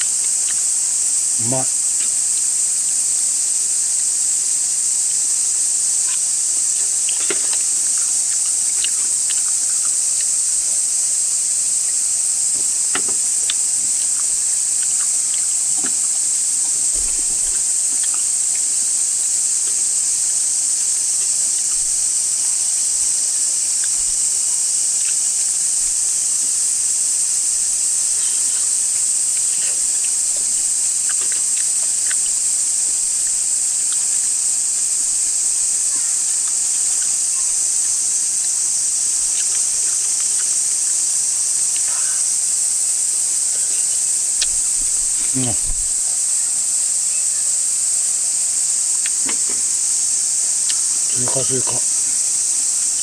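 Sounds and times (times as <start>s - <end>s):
cicadas buzzing: 0.0s - 53.0s.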